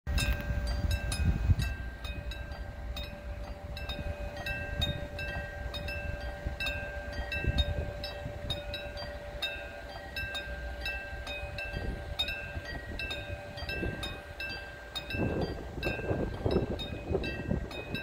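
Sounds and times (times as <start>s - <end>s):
level crossing warning bell: 0.1s - 18.0s.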